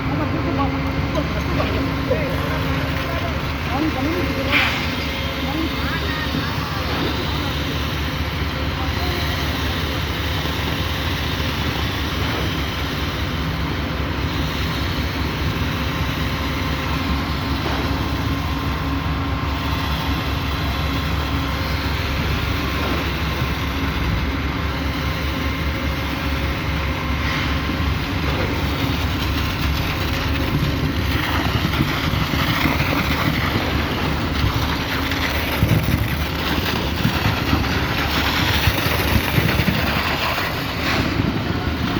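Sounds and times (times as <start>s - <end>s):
diesel truck engine rumbling: 0.0s - 41.9s.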